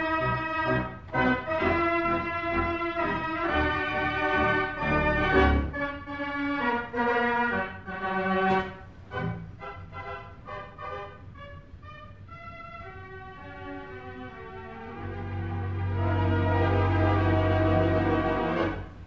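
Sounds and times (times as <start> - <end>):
theatre organ playing: 0.0 - 19.0.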